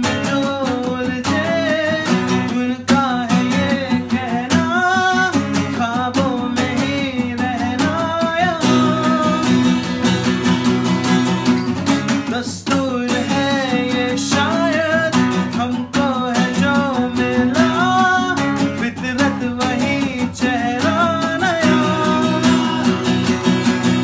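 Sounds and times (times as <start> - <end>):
acoustic guitars playing: 0.0 - 24.0
man singing: 0.0 - 24.0.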